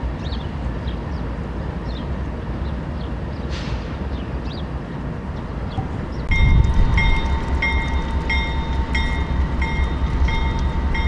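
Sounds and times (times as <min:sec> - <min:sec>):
diesel locomotive rumble: 0:00.0 - 0:11.0.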